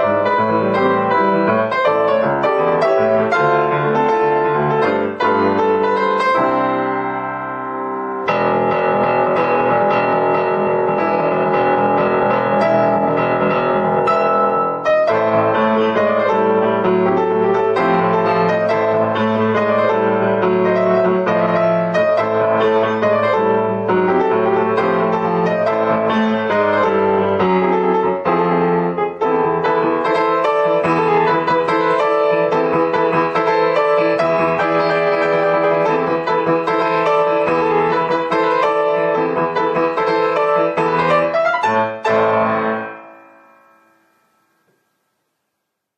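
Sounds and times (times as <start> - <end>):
piano music: 0.0 - 45.4.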